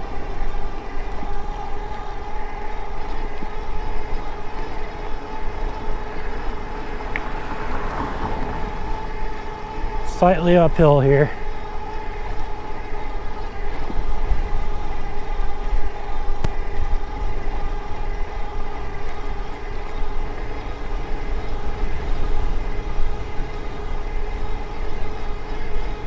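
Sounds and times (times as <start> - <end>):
wind rumble on microphone: 0.0 - 10.2, 11.4 - 26.0
e-bike drivetrain whine: 0.0 - 26.0.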